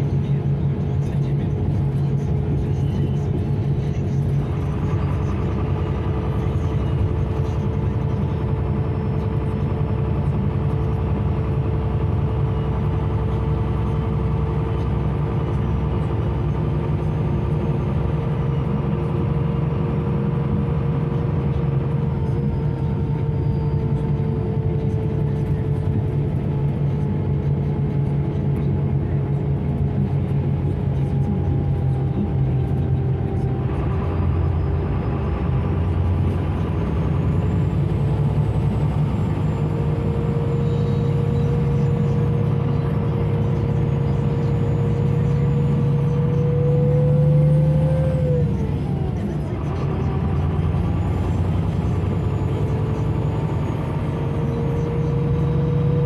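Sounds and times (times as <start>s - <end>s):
bus diesel engine and road drone: 0.0s - 56.0s.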